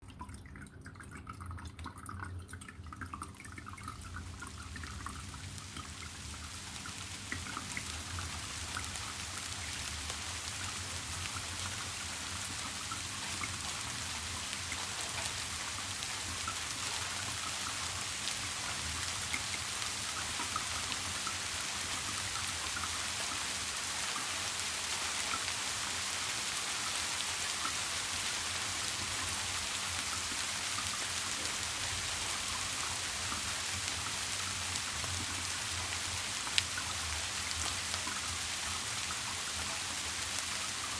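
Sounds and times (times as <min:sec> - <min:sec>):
raindrop ticks: 0:00.1 - 0:40.9
steady rainfall: 0:03.3 - 0:40.9.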